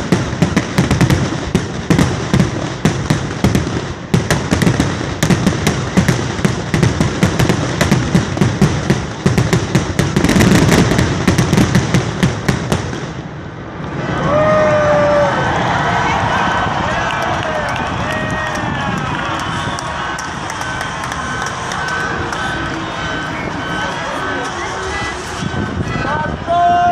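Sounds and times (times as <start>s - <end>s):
fireworks bangs and crackles: 0.0s - 26.9s.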